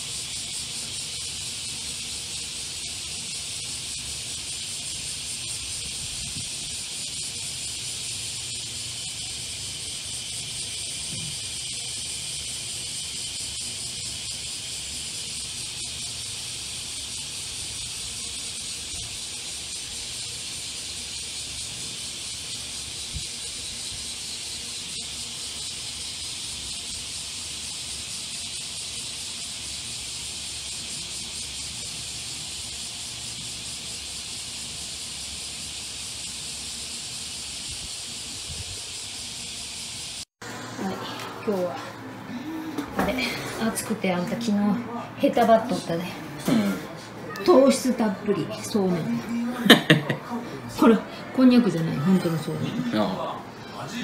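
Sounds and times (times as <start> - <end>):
cicadas buzzing: 0.0 - 54.0.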